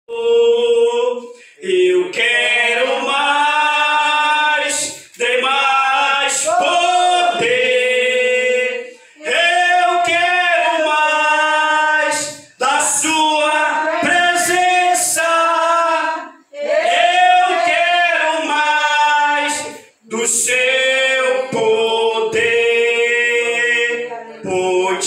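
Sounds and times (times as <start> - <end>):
man singing a hymn: 0.1 - 16.1, 16.9 - 25.0.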